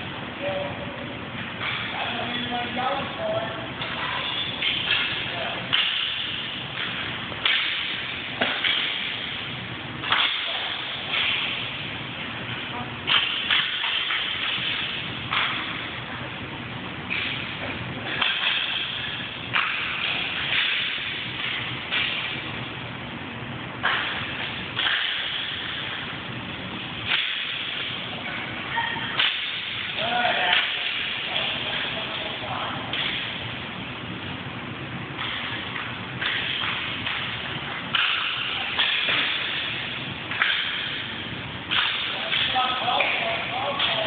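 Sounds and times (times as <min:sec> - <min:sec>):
hockey sticks hitting puck: 0:01.4 - 0:16.4, 0:17.1 - 0:22.8, 0:23.7 - 0:33.7, 0:35.0 - 0:44.0.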